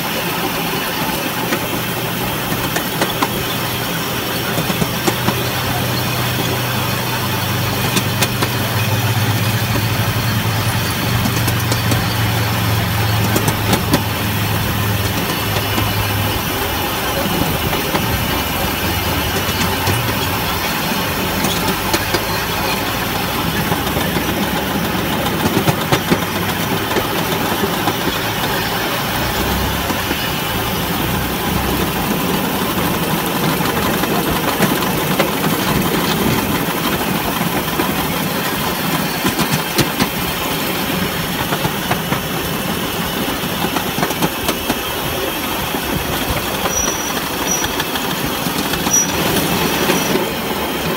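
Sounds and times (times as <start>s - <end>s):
miniature train rumbling on track: 0.0s - 50.9s
wheels clicking on rails: 0.0s - 50.9s.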